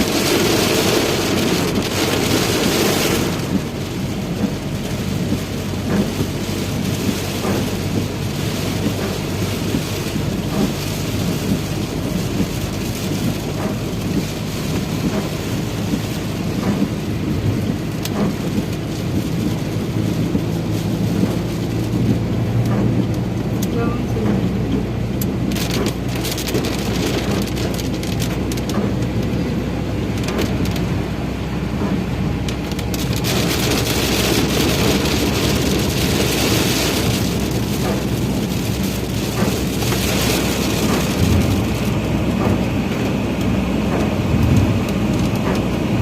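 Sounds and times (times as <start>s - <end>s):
car engine and tyre hum: 0.0s - 46.0s
rain drumming on car: 0.0s - 46.0s.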